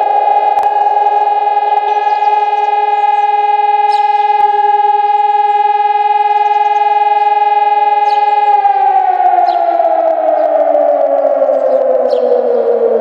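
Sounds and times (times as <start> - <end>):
electronic siren steady tone: 0.0 - 13.0
siren tone sliding down: 0.0 - 13.0.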